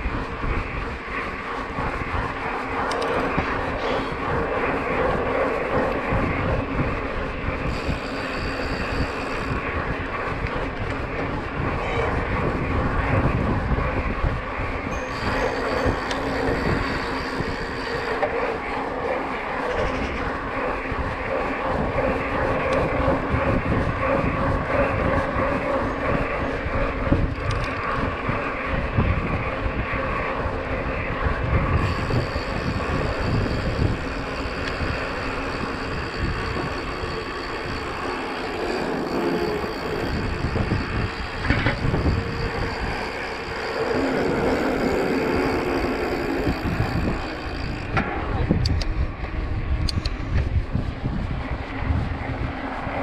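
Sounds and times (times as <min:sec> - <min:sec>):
bike tyres humming on paving: 0:00.0 - 0:18.4, 0:20.8 - 0:52.7
wind buffeting microphone: 0:00.0 - 0:53.0.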